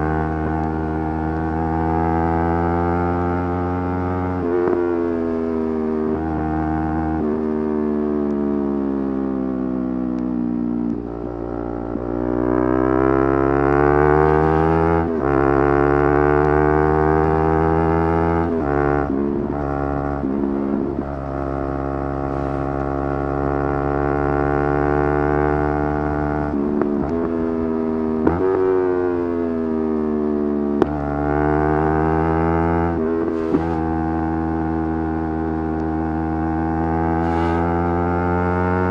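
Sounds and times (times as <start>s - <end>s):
motorcycle engine at high revs: 0.0s - 38.9s.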